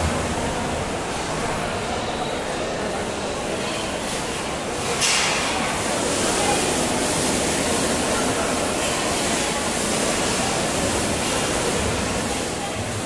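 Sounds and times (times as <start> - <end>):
dining hall din: 0.0 - 13.0.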